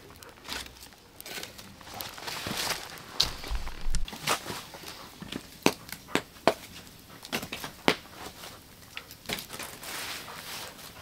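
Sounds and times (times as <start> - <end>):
dry wood snapping and popping: 0.0 - 8.1, 8.8 - 9.9
wood fire crackling: 0.0 - 11.0.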